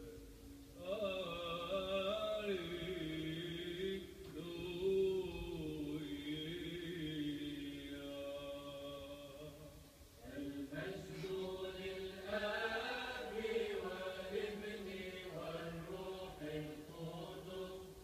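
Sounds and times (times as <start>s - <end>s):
voices chanting long sung notes: 0.0s - 18.0s.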